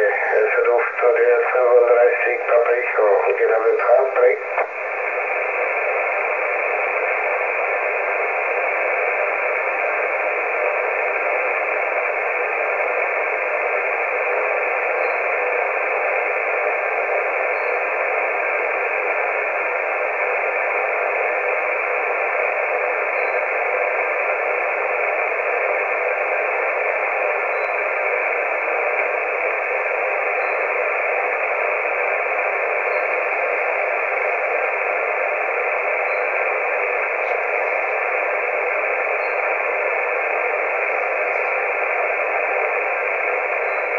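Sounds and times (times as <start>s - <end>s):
radio static hiss: 0.0s - 43.9s.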